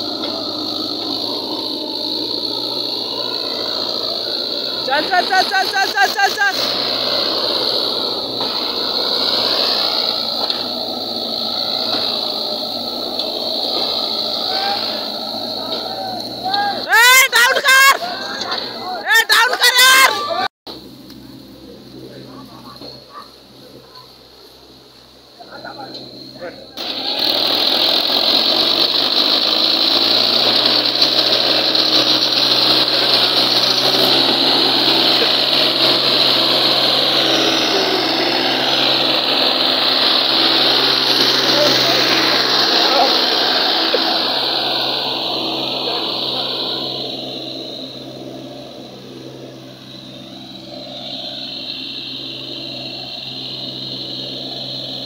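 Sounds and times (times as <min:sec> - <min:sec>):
high-pitched hiss: 0:00.0 - 0:18.2, 0:20.7 - 0:55.0
tractor diesel engine running: 0:00.0 - 0:19.1, 0:26.2 - 0:55.0.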